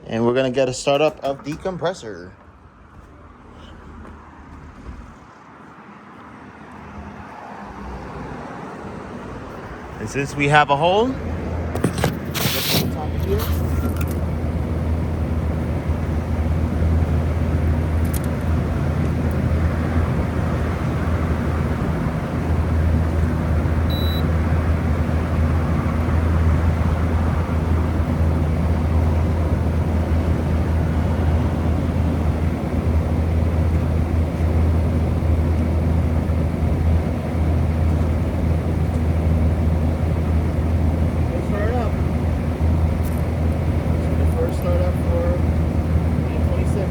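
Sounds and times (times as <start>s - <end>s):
air conditioner humming: 0.0s - 3.1s, 9.6s - 46.9s.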